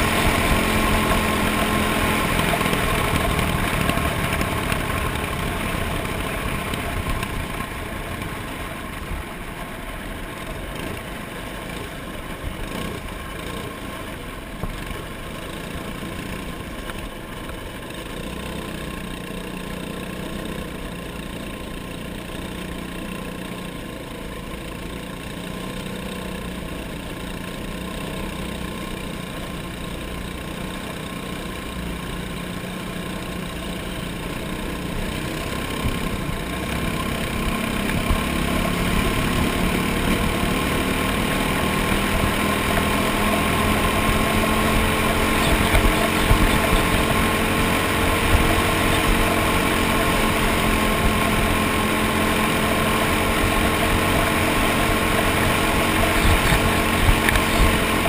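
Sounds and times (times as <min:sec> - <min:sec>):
racing kart engine running: 0:00.0 - 0:58.0.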